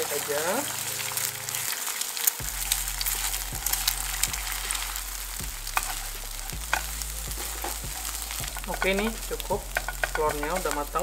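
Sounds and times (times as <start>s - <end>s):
eggs sizzling in frying pan: 0.0s - 11.0s
spatula scraping pan: 0.0s - 11.0s.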